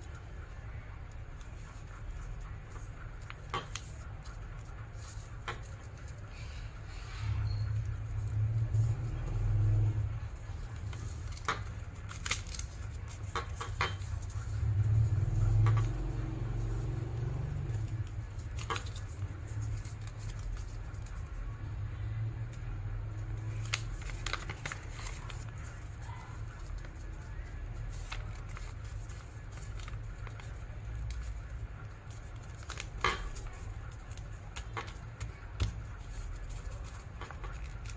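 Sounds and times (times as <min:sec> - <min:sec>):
paper crackling and crinkling: 0:00.0 - 0:06.8, 0:07.7 - 0:37.9.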